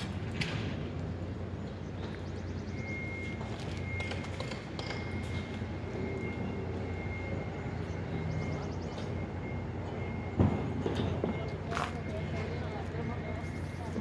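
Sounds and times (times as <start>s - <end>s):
machinery engine humming: 0.0s - 14.0s.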